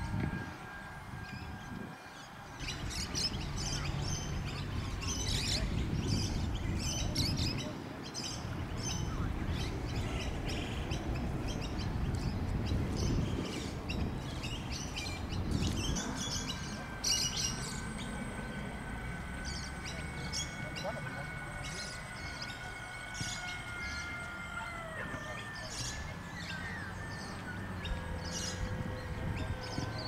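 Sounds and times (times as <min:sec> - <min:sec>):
steady low rumble: 0:00.0 - 0:30.0
small birds chirping: 0:02.1 - 0:30.0.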